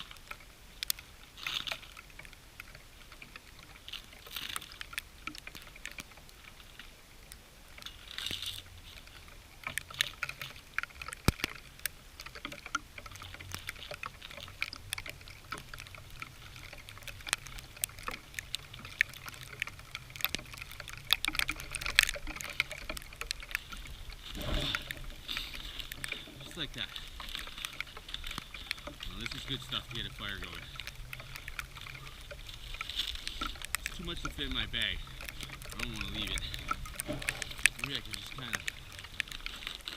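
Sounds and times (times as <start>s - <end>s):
birch bark crackling and tearing: 0.0s - 39.9s
bark rustling: 7.8s - 39.9s.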